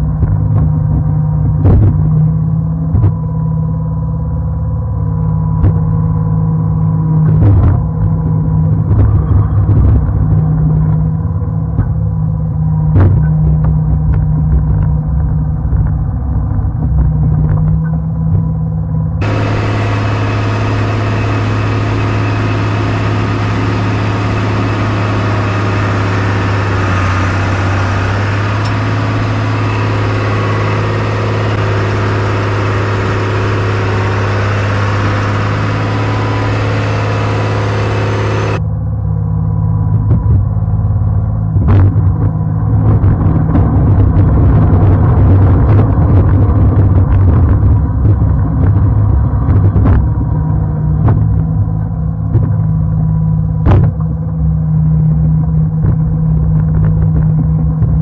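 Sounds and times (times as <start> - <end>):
snowcat engine running: 0.0 - 58.0.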